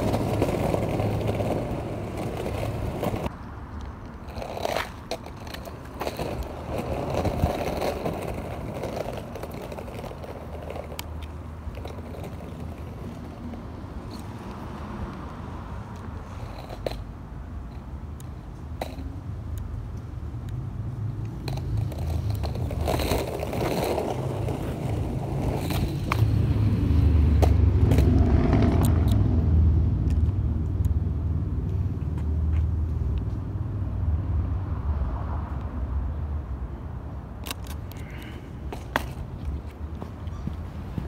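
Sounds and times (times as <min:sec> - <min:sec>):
skateboard wheels rumbling on asphalt: 0:00.0 - 0:41.0.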